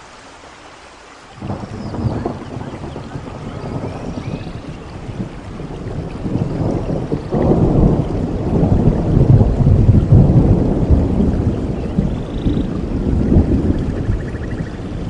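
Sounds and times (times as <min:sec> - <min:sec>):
rain falling: 0:00.0 - 0:15.0
thunder rumbling: 0:01.4 - 0:15.0.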